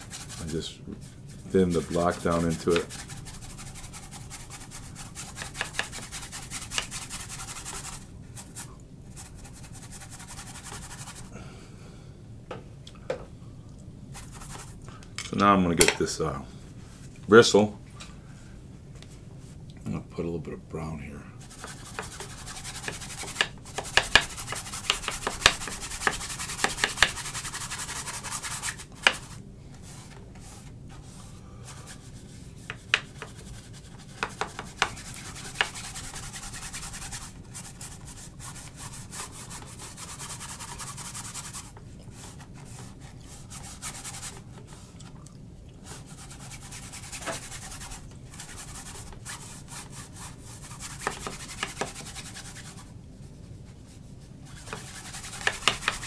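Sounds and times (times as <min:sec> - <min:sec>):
bristle brush scrubbing canvas: 0:00.0 - 0:11.3, 0:14.1 - 0:14.8, 0:21.4 - 0:45.0, 0:45.8 - 0:52.9, 0:53.7 - 0:56.0.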